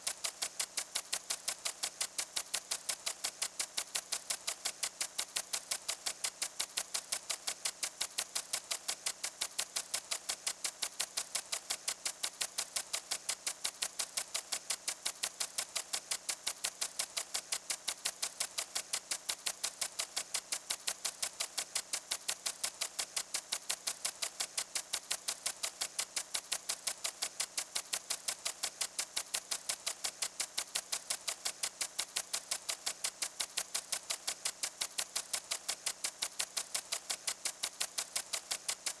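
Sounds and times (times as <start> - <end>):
hiss of sprinkler spray: 0.0 - 39.0
water sprinkler ticking: 0.1 - 39.0.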